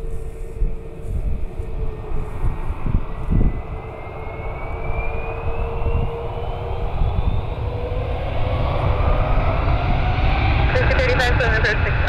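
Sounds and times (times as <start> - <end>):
aircraft engine whine rising: 0.0 - 12.0
low rumble: 0.0 - 12.0.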